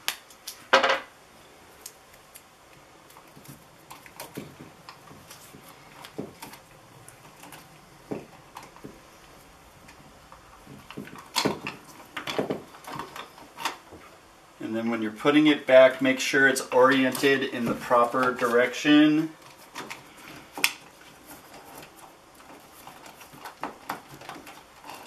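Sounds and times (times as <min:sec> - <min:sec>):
wires light clicks and rustles: 0:00.0 - 0:00.7, 0:01.7 - 0:14.2, 0:16.7 - 0:25.0.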